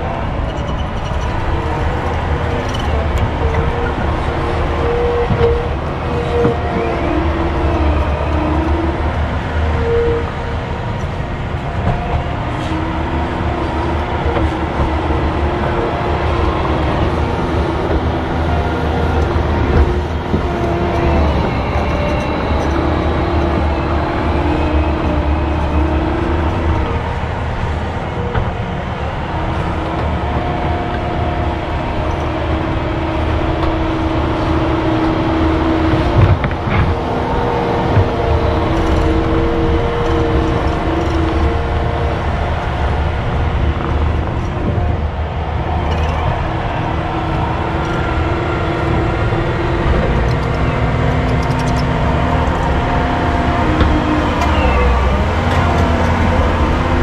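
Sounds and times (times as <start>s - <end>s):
diesel engine running under load: 0.0s - 57.0s
hydraulics whining: 0.0s - 57.0s.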